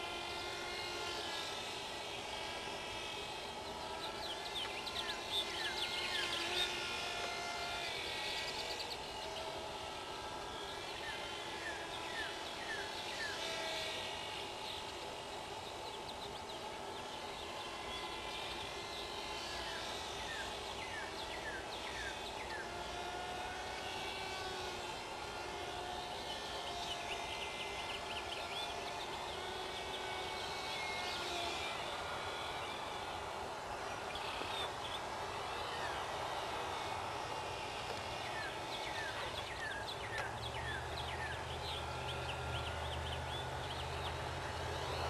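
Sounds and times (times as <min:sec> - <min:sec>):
electric motor whining: 0:00.0 - 0:45.0.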